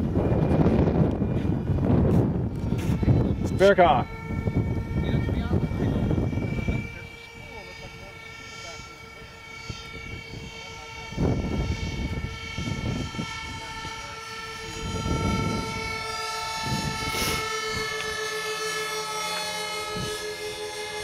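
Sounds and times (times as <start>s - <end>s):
model aircraft motor whine: 0.0s - 21.0s.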